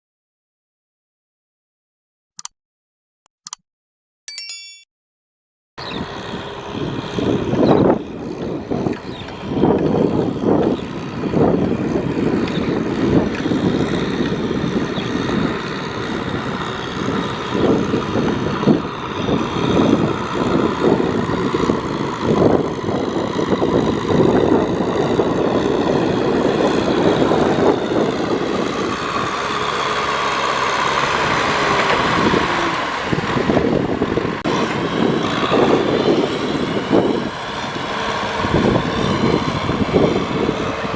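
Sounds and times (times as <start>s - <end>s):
tractor engine running hard: 5.8s - 40.9s.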